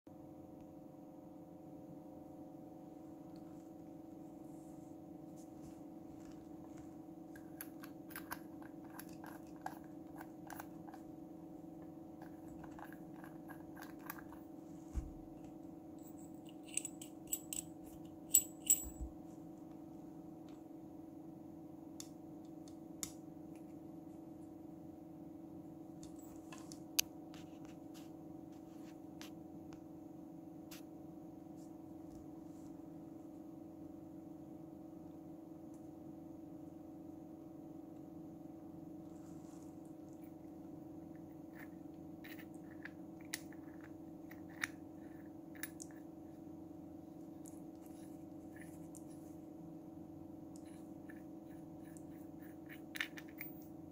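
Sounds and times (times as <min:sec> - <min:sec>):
steady low hum: 0:00.1 - 0:53.9.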